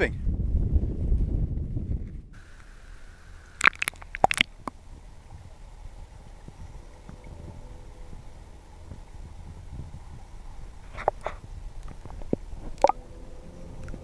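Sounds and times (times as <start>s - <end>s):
muffled underwater river wash: 1.9s - 14.0s.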